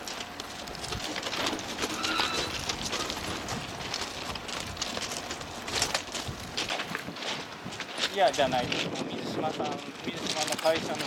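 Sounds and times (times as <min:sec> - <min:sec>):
footsteps on gravel: 0:00.0 - 0:11.0
outdoor background noise: 0:00.0 - 0:11.0.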